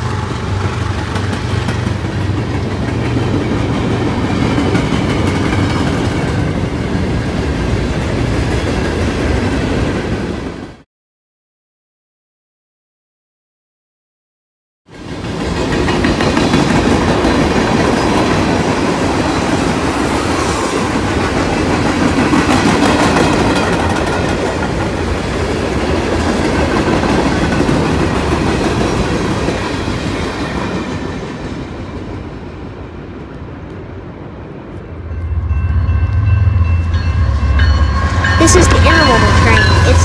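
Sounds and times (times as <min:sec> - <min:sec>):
diesel locomotive engine drone: 0:00.0 - 0:09.4, 0:15.0 - 0:40.0.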